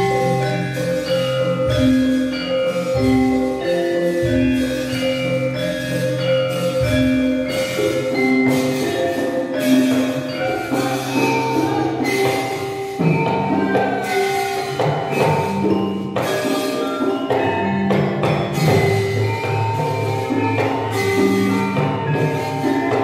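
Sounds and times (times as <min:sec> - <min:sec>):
gamelan playing: 0:00.0 - 0:23.0.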